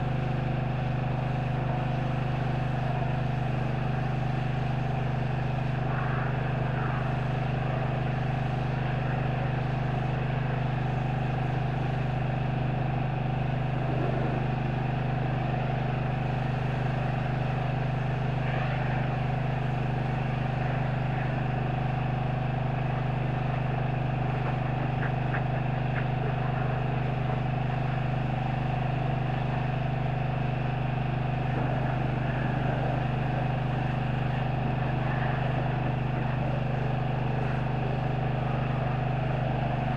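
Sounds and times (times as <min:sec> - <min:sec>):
pressure washer engine drone: 0:00.0 - 0:39.9.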